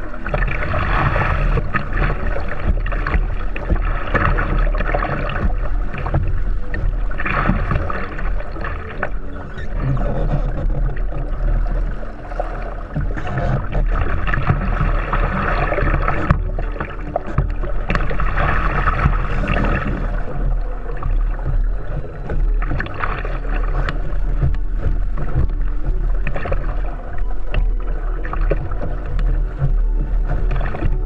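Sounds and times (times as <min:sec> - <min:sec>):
deep steady rumble: 0:00.0 - 0:31.0
water rushing along kayak hull: 0:00.0 - 0:31.0.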